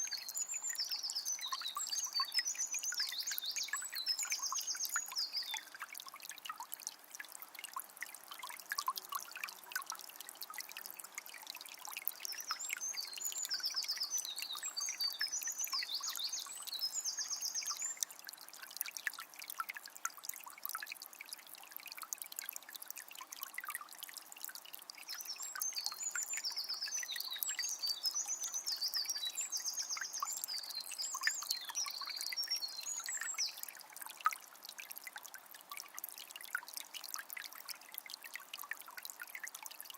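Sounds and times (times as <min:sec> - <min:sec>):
spring water trickling: 0:00.0 - 0:39.9.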